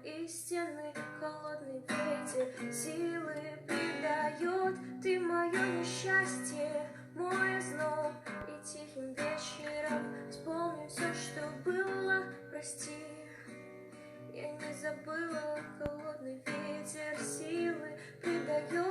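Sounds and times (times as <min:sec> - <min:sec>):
strummed acoustic guitar: 0:00.0 - 0:18.9.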